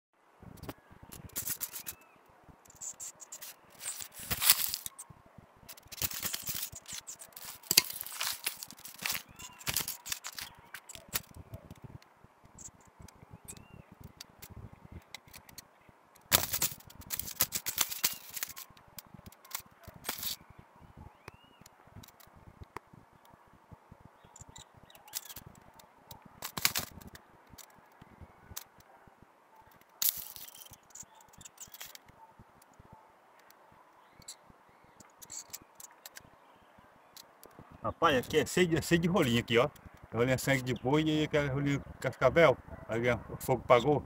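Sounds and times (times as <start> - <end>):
dry sticks clicking and scraping: 0.5 - 20.5, 21.2 - 23.4, 24.2 - 28.9, 29.6 - 41.1.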